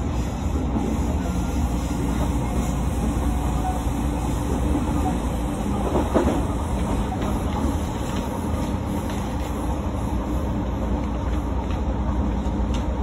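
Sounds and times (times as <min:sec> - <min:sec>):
train clatter: 0:00.0 - 0:13.0
train wheels rumbling on rail: 0:00.0 - 0:13.0.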